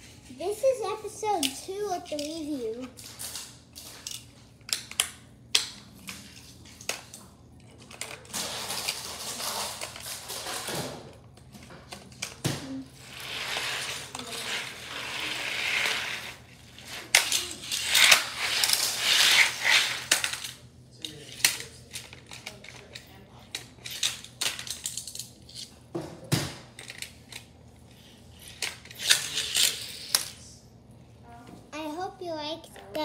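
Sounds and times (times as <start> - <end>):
toy cars and track clattering: 1.1 - 25.7, 28.4 - 30.5.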